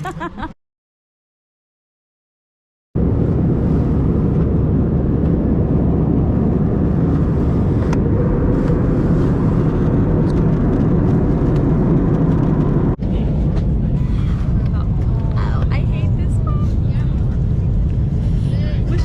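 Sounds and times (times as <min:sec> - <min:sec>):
airliner cabin engine rumble: 0:03.0 - 0:19.0.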